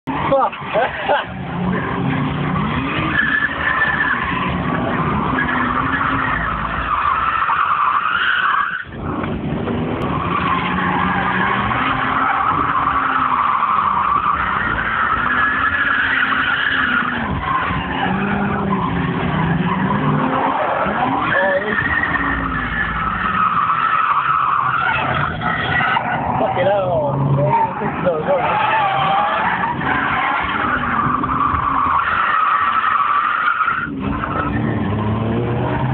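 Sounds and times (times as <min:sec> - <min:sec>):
car engines revving: 0:00.0 - 0:35.9
tyres squealing: 0:00.1 - 0:09.0, 0:10.1 - 0:35.1.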